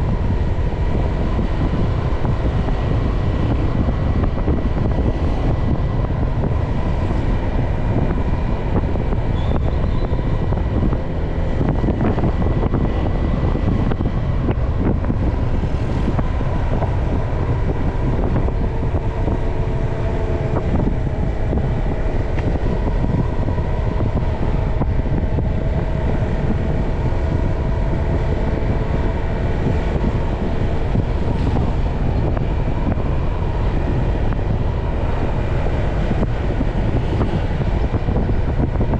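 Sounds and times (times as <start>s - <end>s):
motorcycle running: 0.0s - 38.9s
wind rumble on microphone: 0.0s - 38.9s.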